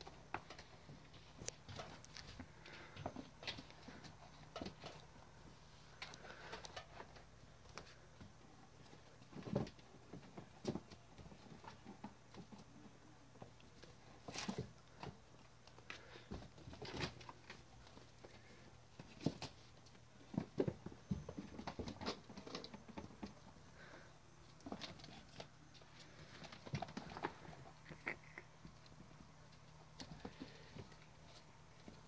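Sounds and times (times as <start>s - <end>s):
faint low hum: 0.0s - 32.0s
kittens scratching and pawing: 0.0s - 32.0s.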